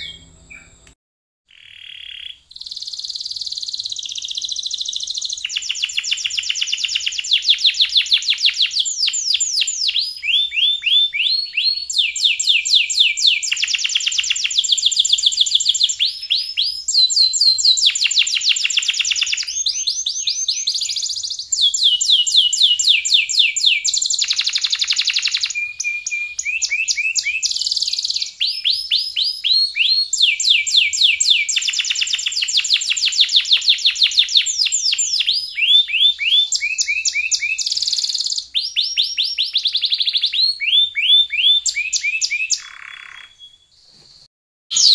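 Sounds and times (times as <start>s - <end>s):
canary singing trills: 0.0s - 0.9s, 1.5s - 43.8s.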